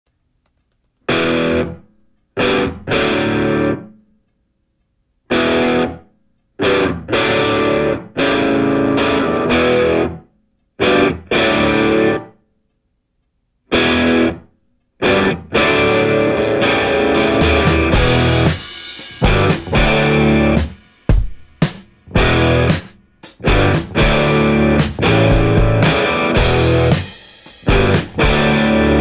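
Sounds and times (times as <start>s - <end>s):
distorted electric guitar chords: 1.1s - 4.0s, 5.3s - 6.0s, 6.6s - 10.2s, 10.8s - 12.4s, 13.7s - 29.0s.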